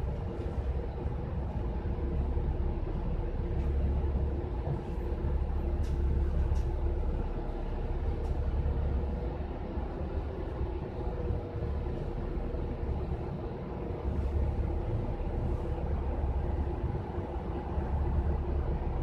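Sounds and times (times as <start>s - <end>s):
bus engine and road rumble: 0.0s - 19.0s
faint steady whine: 0.0s - 19.0s.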